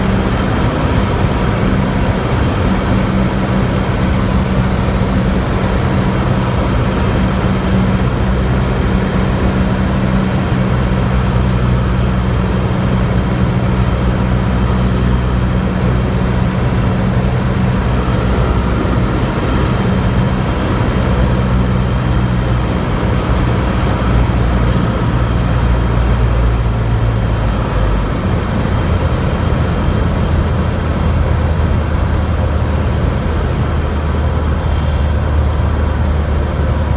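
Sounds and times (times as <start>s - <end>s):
small plane engine droning: 0.0s - 36.9s.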